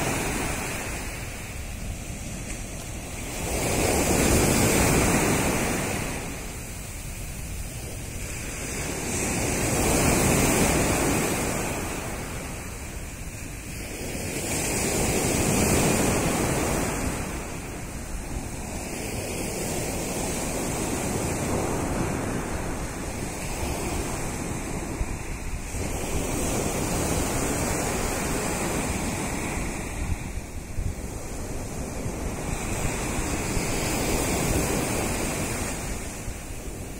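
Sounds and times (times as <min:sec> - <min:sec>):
waves breaking on shore: 0:00.0 - 0:36.9.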